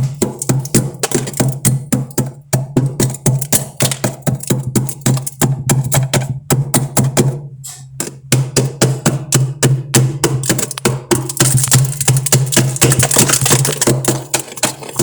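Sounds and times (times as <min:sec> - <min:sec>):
fast sharp knocks: 0:00.0 - 0:07.4, 0:08.0 - 0:15.0.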